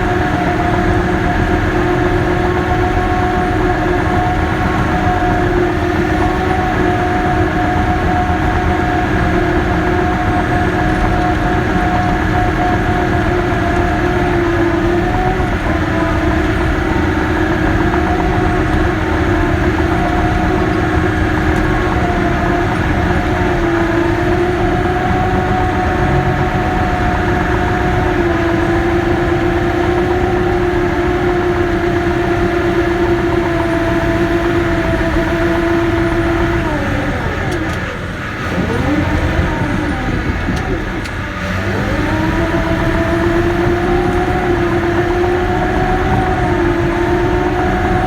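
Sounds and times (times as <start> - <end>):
bulldozer engine whine: 0.0 - 48.0.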